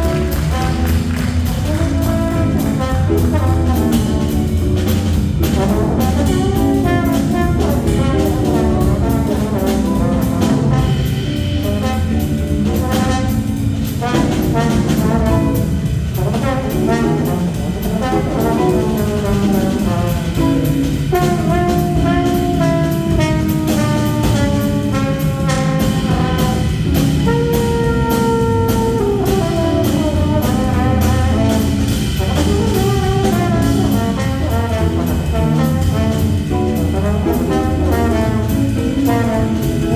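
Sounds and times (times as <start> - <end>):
jazz combo playing: 0.0 - 39.9.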